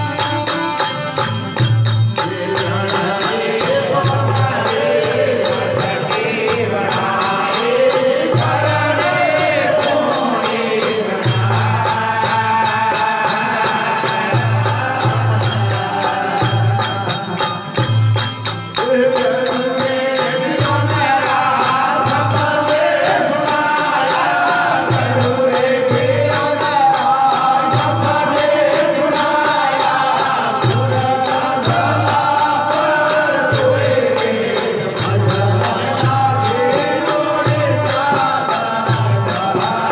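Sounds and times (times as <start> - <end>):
instrumental accompaniment: 0.0 - 39.9
jingling percussion: 0.0 - 39.9.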